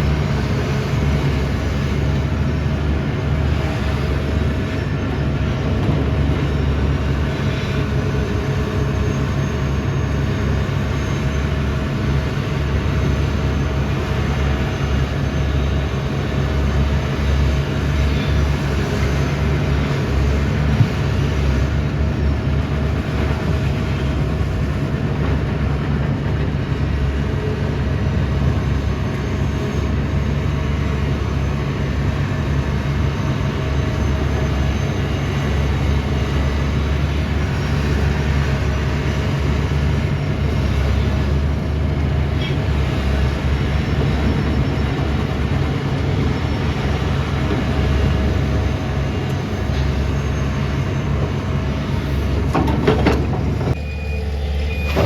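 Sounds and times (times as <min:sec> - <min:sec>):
excavator diesel engine droning: 0:00.0 - 0:55.0.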